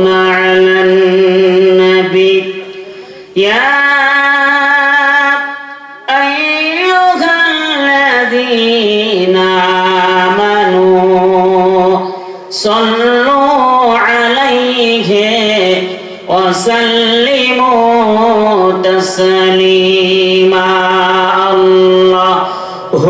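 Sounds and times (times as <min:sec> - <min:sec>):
man chanting into microphone: 0:00.0 - 0:23.0.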